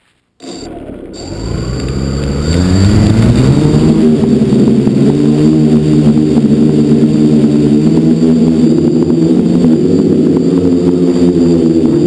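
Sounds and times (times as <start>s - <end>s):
drone motors and propellers whining: 0.4s - 12.0s.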